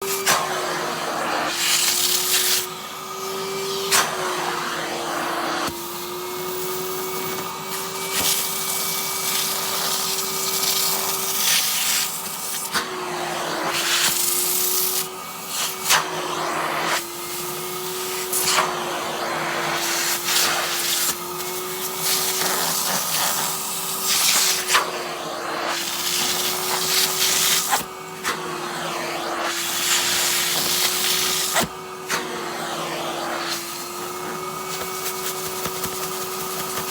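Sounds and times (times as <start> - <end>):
vacuum cleaner running: 0.0 - 36.9.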